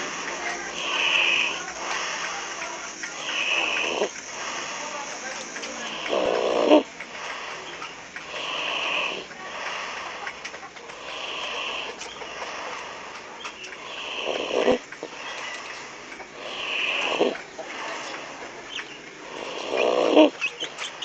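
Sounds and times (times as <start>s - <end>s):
snoring: 0.0s - 10.2s, 10.9s - 13.1s, 13.8s - 15.3s, 16.3s - 18.4s, 19.2s - 20.4s.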